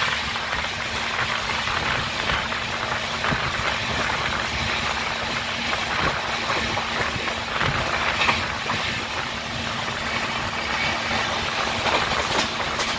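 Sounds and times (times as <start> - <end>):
train wheels on rails: 0.0 - 12.9.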